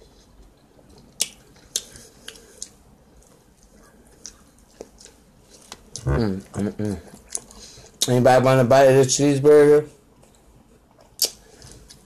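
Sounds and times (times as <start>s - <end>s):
person chewing food: 0.0s - 8.1s, 10.1s - 12.0s.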